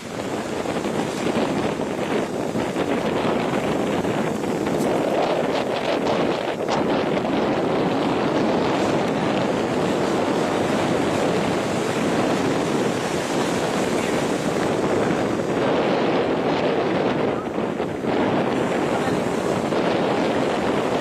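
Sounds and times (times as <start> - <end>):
sea surf washing on shore: 0.0 - 21.0
wind on microphone: 0.0 - 21.0.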